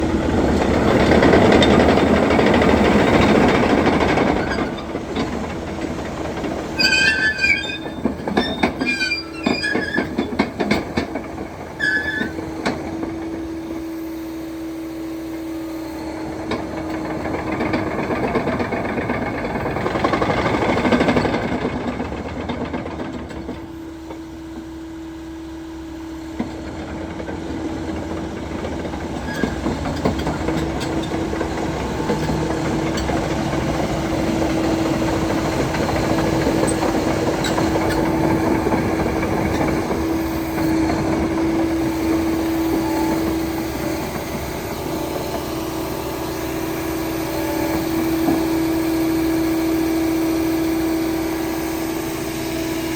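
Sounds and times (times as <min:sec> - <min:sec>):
bulldozer engine hum: 0:00.0 - 0:52.9
steel tracks squealing and clanking: 0:00.4 - 0:52.9.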